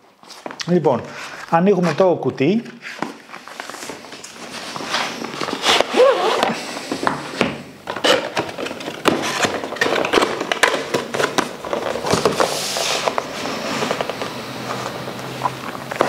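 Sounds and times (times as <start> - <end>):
cardboard sliding scrape: 2.8 - 16.0.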